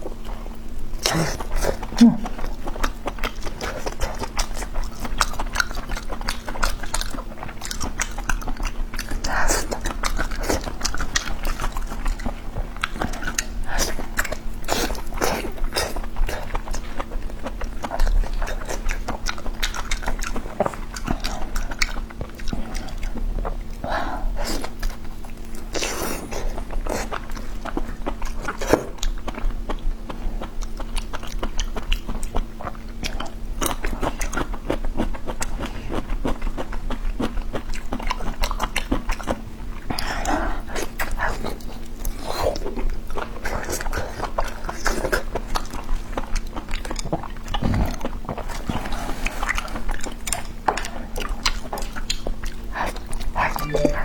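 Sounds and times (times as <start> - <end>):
person chewing with mouth clicks: 0.2 - 23.8, 24.4 - 54.0.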